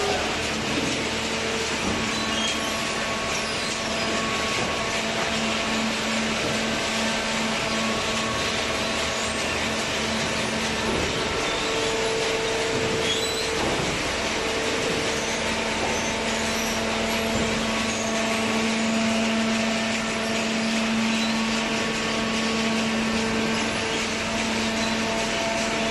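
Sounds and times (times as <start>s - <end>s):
baling machine humming: 0.0s - 25.9s.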